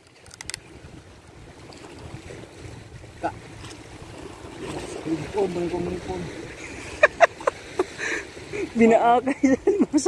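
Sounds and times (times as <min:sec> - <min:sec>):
wind rushing over microphone: 0:00.4 - 0:09.3.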